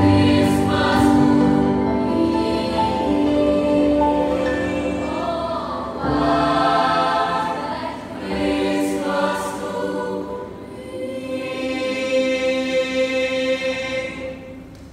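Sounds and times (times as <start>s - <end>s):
children's choir singing: 0.0s - 14.7s.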